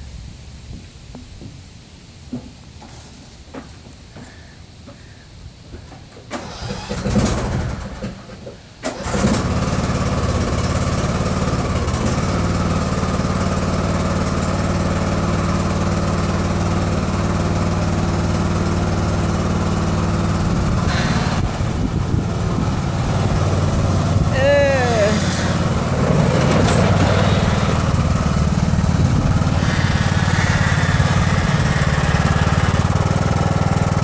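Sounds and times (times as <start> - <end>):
lawn tractor engine cranking: 6.3 - 34.0
lawn tractor engine running: 6.3 - 34.0.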